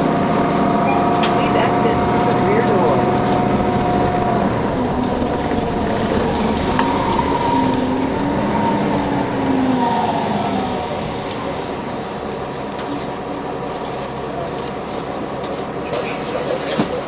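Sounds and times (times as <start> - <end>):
bus engine whine: 0.0 - 17.0.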